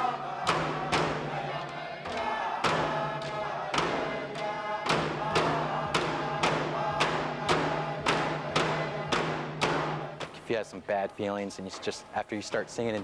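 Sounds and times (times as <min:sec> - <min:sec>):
group of voices singing: 0:00.0 - 0:10.5
frame drum beats: 0:00.0 - 0:10.7.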